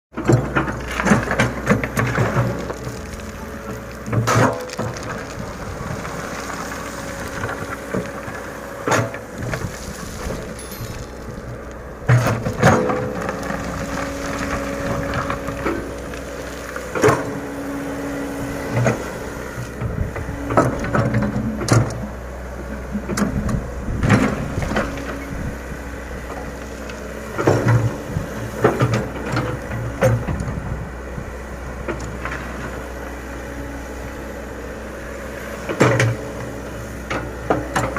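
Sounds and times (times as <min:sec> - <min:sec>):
engine whine: 0:00.1 - 0:37.9
excavator engine droning: 0:00.1 - 0:37.9.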